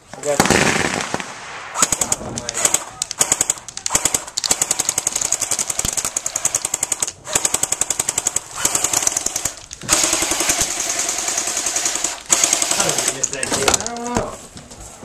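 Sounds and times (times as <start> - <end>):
airsoft gun firing full-auto: 0.4 - 13.8.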